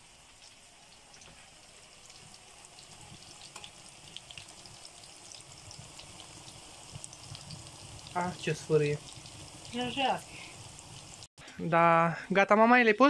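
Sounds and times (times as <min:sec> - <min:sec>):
patties sizzling in hot oil: 0:00.0 - 0:11.9.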